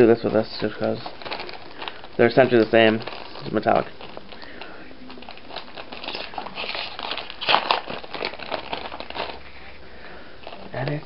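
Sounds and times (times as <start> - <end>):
foil packet crinkling: 0.0 - 11.0.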